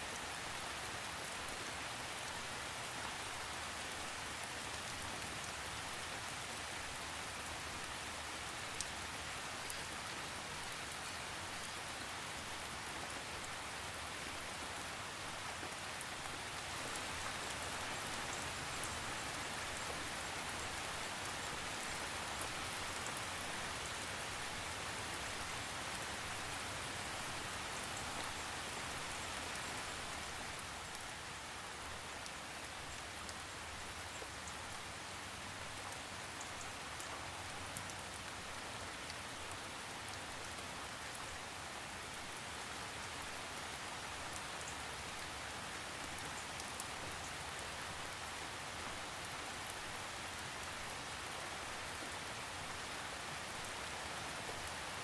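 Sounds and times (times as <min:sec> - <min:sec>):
rain hissing on a surface: 0:00.0 - 0:55.0.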